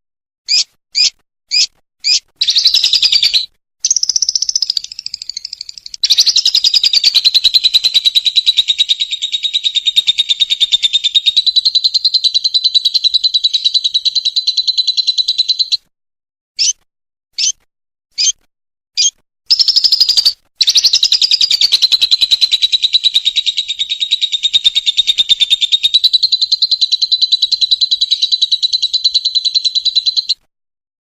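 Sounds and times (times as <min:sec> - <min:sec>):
lovebird chattering trill: 0:00.5 - 0:15.8, 0:17.4 - 0:17.6, 0:18.2 - 0:18.4, 0:19.0 - 0:30.4.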